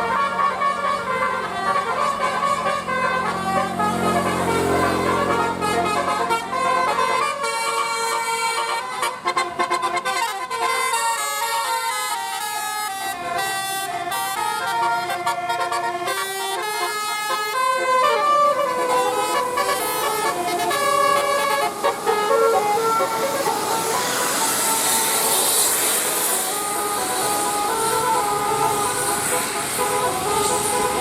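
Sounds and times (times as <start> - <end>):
air horn playing a melody: 0.0 - 31.0.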